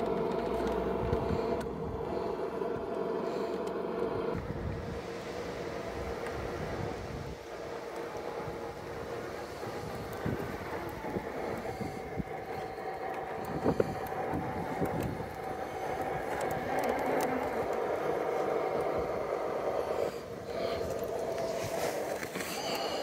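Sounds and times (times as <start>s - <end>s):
electric motor whine: 0.0s - 23.0s.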